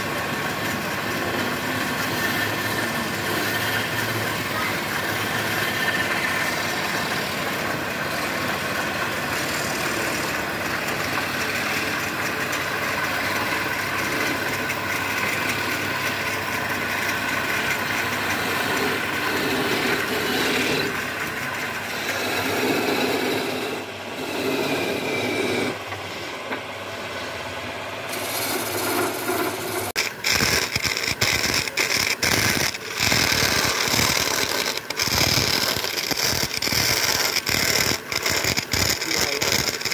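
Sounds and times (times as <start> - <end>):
metal tool cutting spinning wood: 0.0 - 26.4, 28.1 - 39.9
wood lathe rasping hum: 0.0 - 26.4, 28.1 - 39.9.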